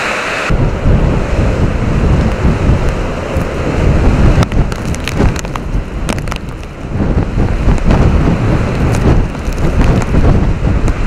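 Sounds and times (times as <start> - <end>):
heavy rain hissing: 0.0 - 11.0
strong wind gusting into microphone: 0.0 - 11.0.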